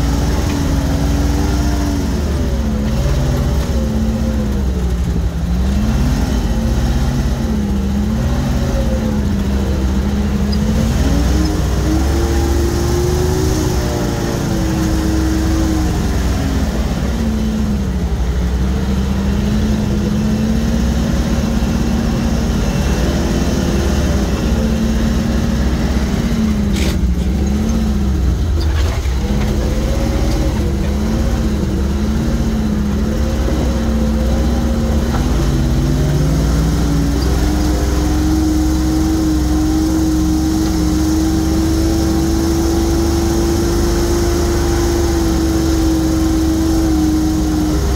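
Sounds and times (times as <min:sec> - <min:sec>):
truck engine running under load: 0:00.0 - 0:47.9.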